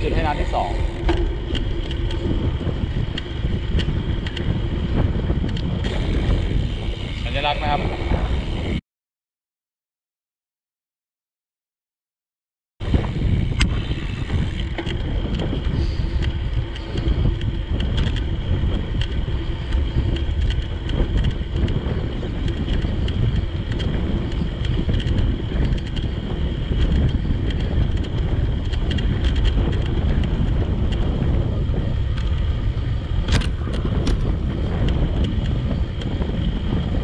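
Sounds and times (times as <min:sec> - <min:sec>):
wind rushing over microphone: 0:00.0 - 0:08.8, 0:12.8 - 0:37.0.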